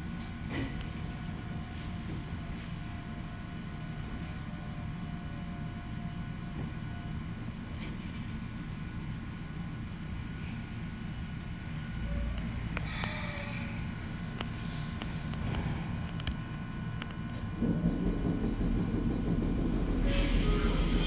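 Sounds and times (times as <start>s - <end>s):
train rumble with motor whine: 0.0s - 21.0s.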